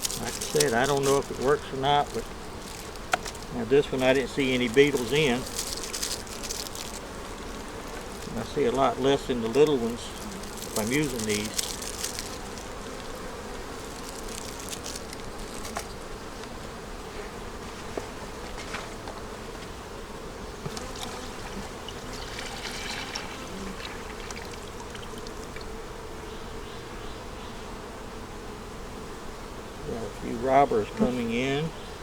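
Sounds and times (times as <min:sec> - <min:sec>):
honey bees buzzing: 0:00.0 - 0:32.0.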